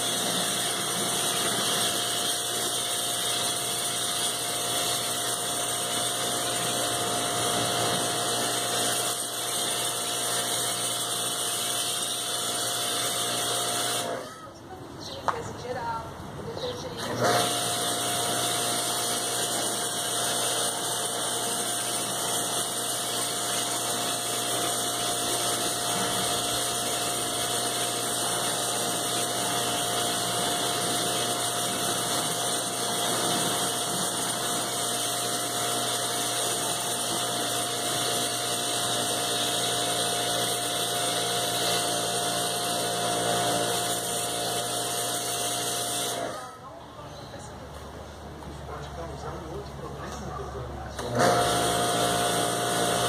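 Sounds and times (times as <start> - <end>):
pressure washer motor hum: 0.0 - 14.4, 16.9 - 46.6, 47.6 - 53.0.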